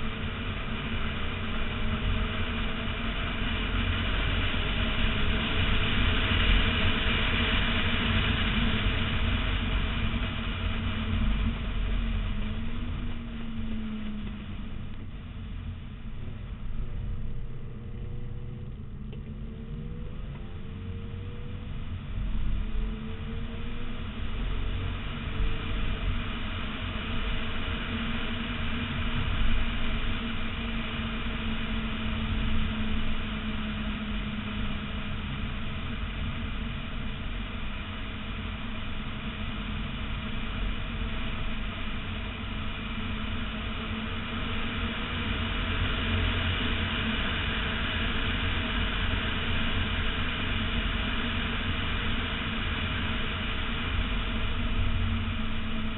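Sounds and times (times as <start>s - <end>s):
faint car engine: 0.0s - 55.9s
road and tyre noise: 0.0s - 55.9s.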